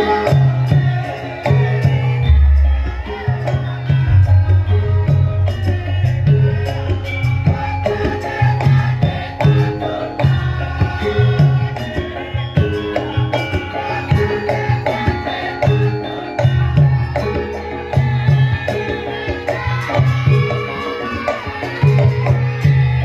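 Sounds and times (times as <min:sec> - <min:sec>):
ringing gong-chimes and metallophones: 0:00.0 - 0:23.0.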